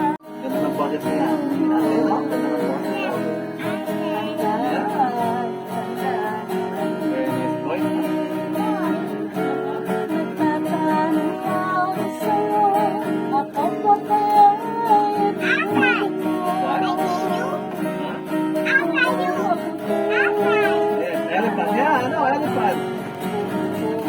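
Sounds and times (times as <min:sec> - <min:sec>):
person singing: 0:00.0 - 0:22.1, 0:23.1 - 0:24.0
acoustic guitar strummed: 0:00.0 - 0:24.0.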